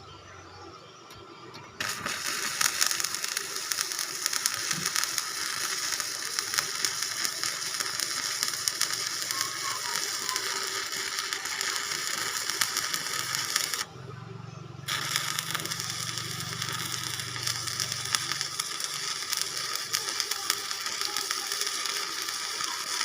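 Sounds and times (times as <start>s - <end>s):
arc welding crackling sizzle: 1.0s - 14.1s, 14.8s - 23.0s.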